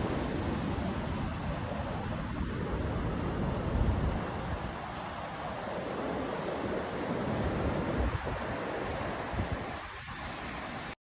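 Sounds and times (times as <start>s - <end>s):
wind buffeting microphone: 0.0s - 10.9s
surf washing up beach: 0.0s - 11.0s.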